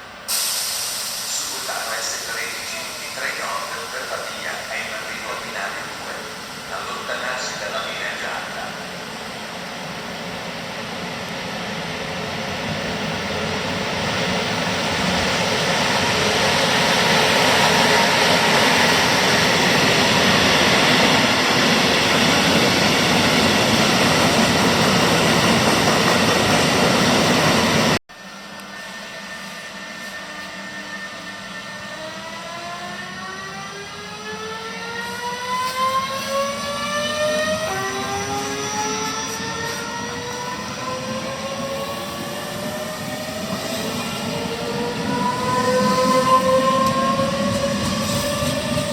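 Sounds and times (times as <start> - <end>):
train passing at speed: 0.0 - 48.9.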